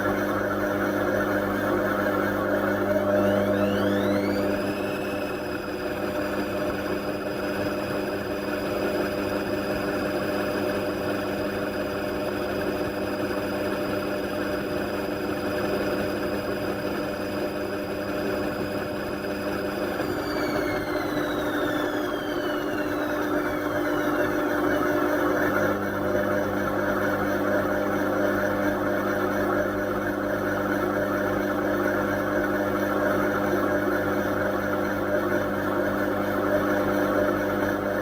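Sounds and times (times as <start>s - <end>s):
washing machine running: 0.0s - 38.0s.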